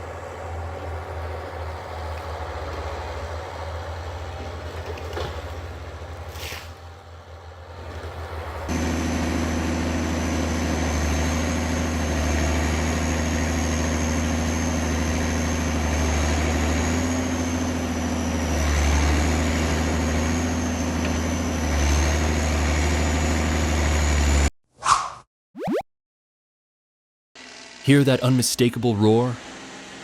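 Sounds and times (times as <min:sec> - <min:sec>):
heavy machine engine running: 0:00.0 - 0:24.5.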